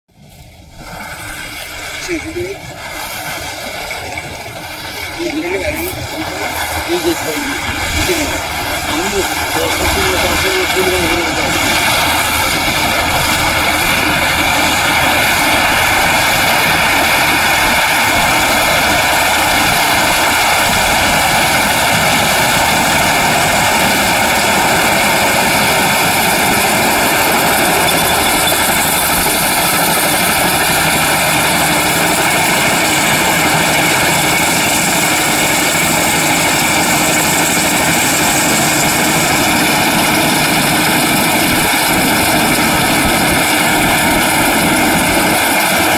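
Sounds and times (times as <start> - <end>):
combine harvester running: 0.1 - 45.9.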